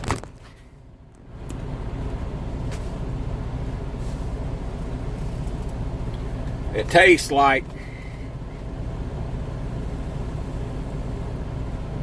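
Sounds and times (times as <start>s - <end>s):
truck engine idling: 0.2s - 12.0s.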